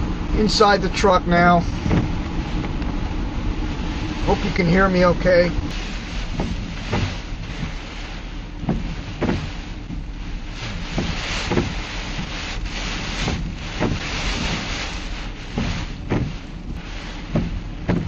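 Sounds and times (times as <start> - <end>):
low thumps of gusts on vehicle: 0.0 - 18.0
wind gusting around truck: 0.0 - 18.0.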